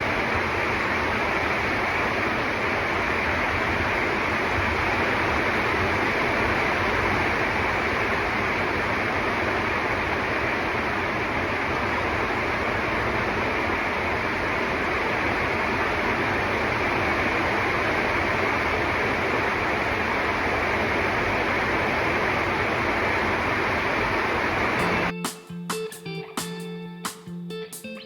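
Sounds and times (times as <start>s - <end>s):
heavy torrential rain: 0.0s - 25.1s.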